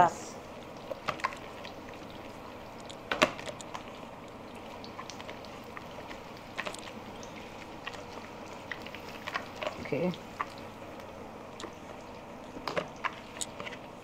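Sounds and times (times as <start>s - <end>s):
food frying in hot oil: 0.0s - 14.0s.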